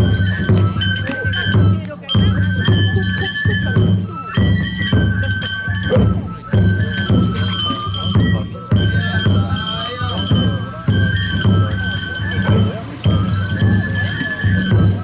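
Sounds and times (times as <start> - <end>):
bamboo flute playing: 0.0 - 15.0
drum pattern: 0.0 - 15.0.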